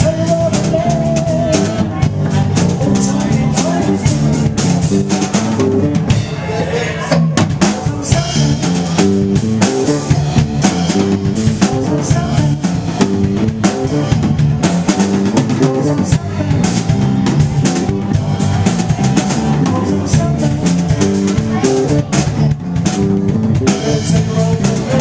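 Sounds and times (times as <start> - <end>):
drum kit steady beat: 0.0 - 25.0
electric bass line: 0.0 - 25.0
rock band playing: 0.0 - 25.0.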